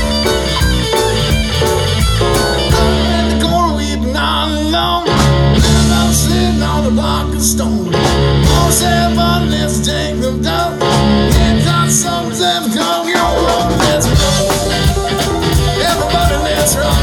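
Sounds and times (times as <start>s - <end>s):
drum kit: 0.0s - 3.8s, 5.0s - 17.0s
electric guitar: 0.0s - 17.0s
live band playing: 0.0s - 17.0s.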